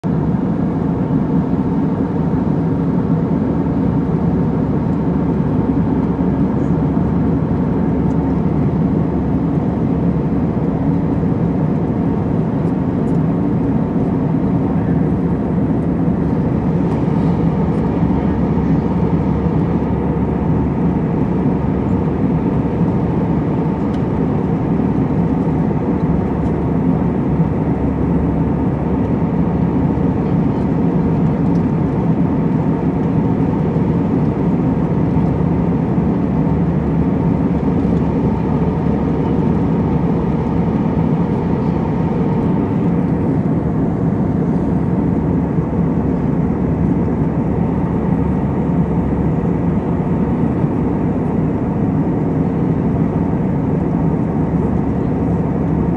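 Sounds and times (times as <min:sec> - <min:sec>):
aircraft cabin drone: 0:00.0 - 0:55.9.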